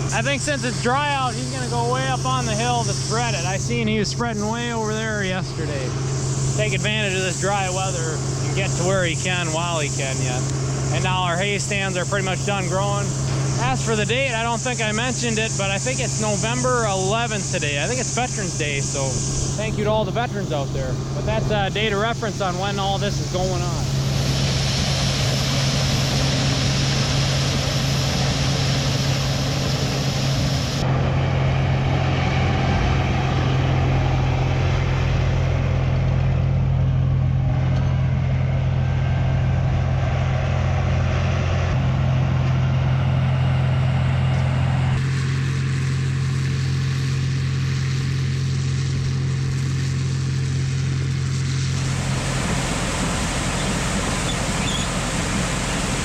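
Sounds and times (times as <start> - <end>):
farm machine engine running: 0.0 - 56.0.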